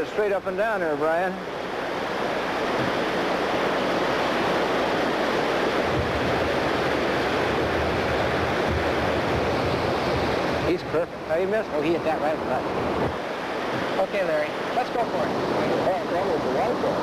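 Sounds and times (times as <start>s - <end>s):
whitewater rapid rushing: 0.0s - 17.0s.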